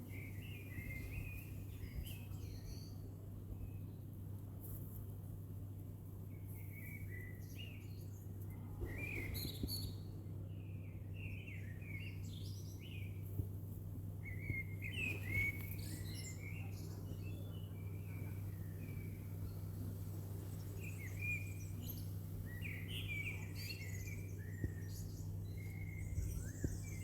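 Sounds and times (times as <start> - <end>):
songbirds chirping: 0.0 - 27.0
steady low hum: 0.0 - 27.0.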